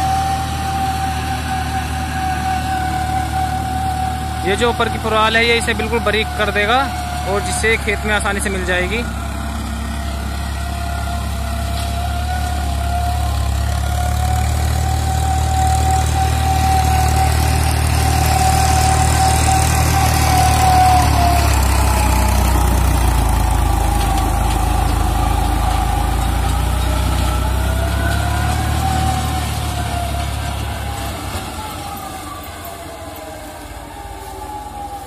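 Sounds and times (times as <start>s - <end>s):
mulcher whine: 0.0s - 35.0s
tractor diesel engine running: 0.0s - 35.0s.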